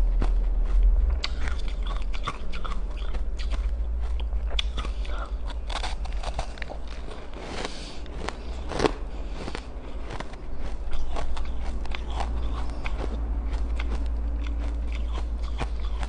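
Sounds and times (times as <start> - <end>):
low hum: 0.0 - 16.0
teeth crunching ice: 1.2 - 16.0.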